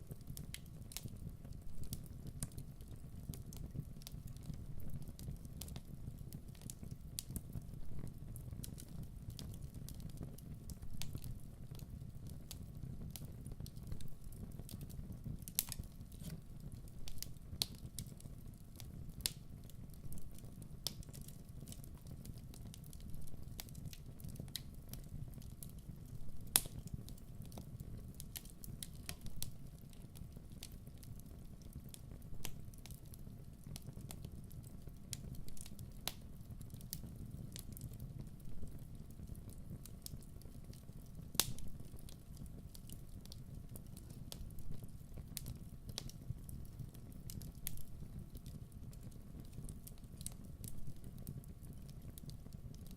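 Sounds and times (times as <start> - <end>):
wood fire crackling and popping: 0.0 - 52.9.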